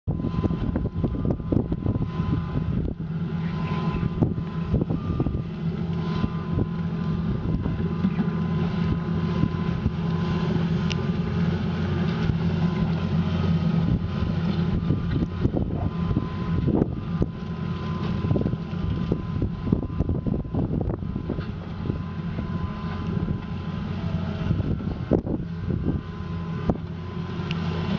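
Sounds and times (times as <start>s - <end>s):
steady whine: 0.0s - 27.9s
excavator diesel engine running: 0.1s - 27.9s.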